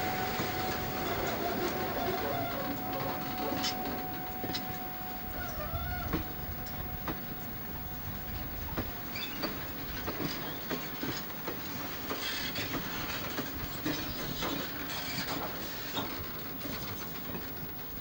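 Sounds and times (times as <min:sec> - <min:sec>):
wheel squeals: 0:00.0 - 0:11.2, 0:12.1 - 0:16.2
train wheels rolling over rails: 0:00.0 - 0:18.0
wheels knocking at rail joints: 0:00.0 - 0:18.0.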